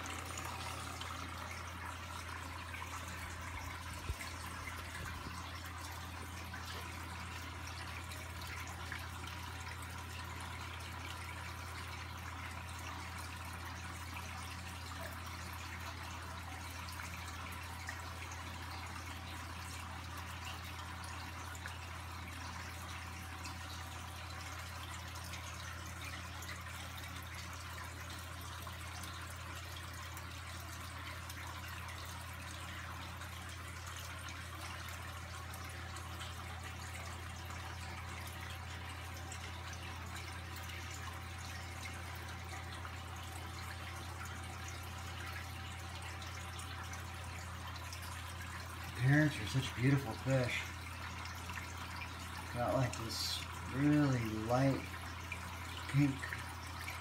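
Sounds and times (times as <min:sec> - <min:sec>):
aquarium pump hum: 0:00.0 - 0:57.0
water trickling and splashing: 0:00.0 - 0:57.0.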